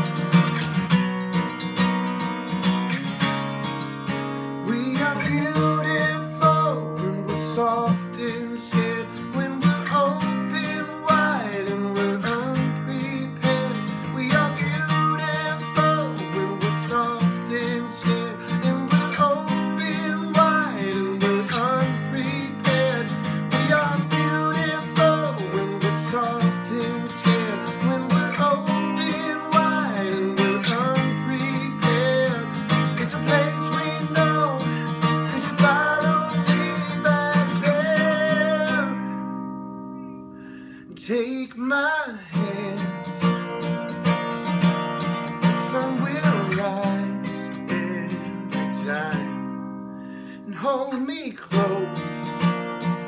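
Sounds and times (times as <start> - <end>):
acoustic guitar strumming: 0.0 - 53.0
man singing: 4.4 - 39.4, 40.6 - 49.6, 50.2 - 53.0.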